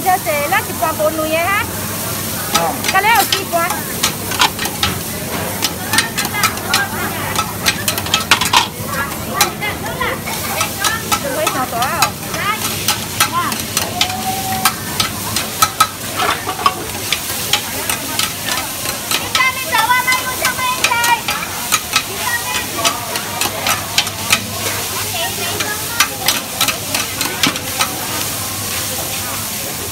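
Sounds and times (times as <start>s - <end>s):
food sizzling: 0.0s - 29.9s
metal spatulas scraping a wok: 2.0s - 28.8s.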